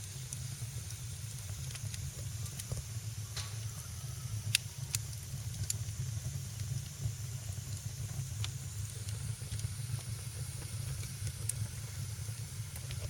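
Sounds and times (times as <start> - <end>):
fire crackles and pops: 0.0 - 13.0
wood fire rumbling: 0.0 - 13.0.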